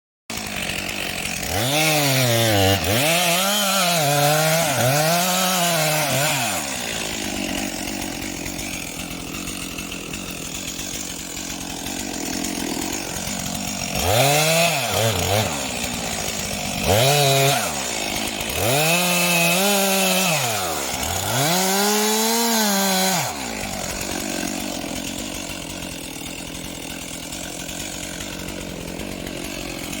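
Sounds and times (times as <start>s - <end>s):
chainsaw engine revving: 0.3s - 30.0s.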